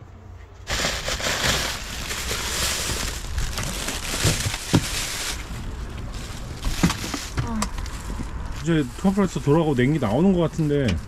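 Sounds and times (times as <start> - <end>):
plastic bags rustling: 0.6 - 10.9.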